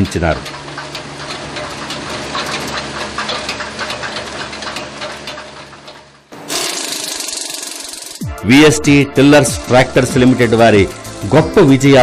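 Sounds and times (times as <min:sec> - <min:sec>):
tractor diesel engine clattering: 0:00.0 - 0:08.2, 0:09.2 - 0:12.0.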